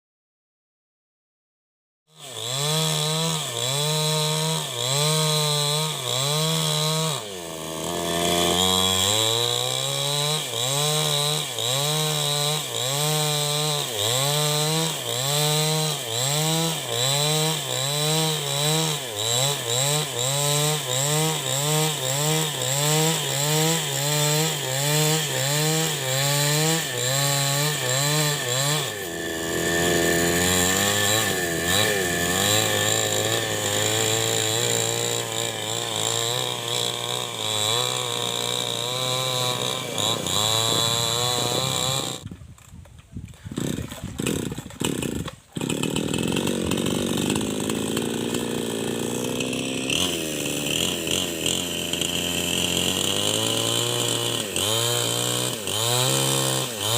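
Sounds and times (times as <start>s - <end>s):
chainsaw cutting wood: 2.1s - 56.9s.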